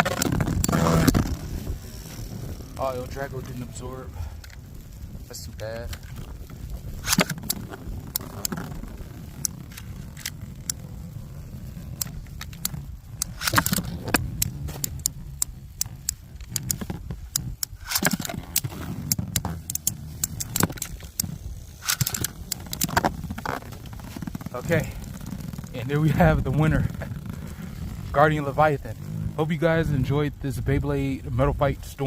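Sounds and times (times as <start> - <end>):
low wind rumble on microphone: 0.0 - 32.0.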